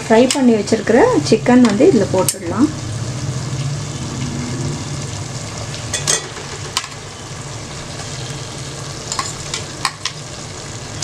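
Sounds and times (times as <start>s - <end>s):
gravy sizzling in a pot: 0.0s - 11.0s.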